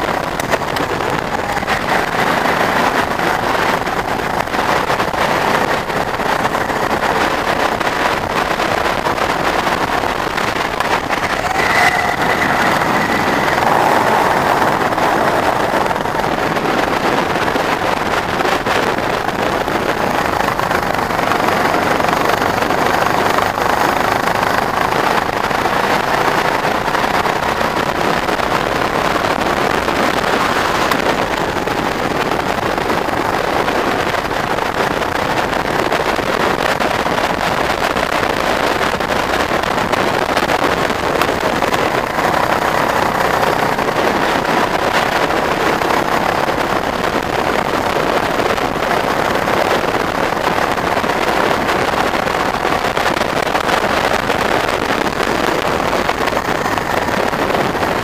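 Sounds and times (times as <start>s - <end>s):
go-kart engine running: 0.0s - 58.0s
rush of noise: 0.0s - 58.0s.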